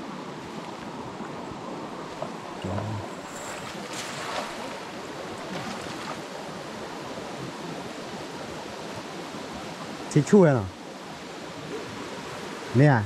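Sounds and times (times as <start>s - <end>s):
river water flowing over rocks: 0.0s - 13.0s.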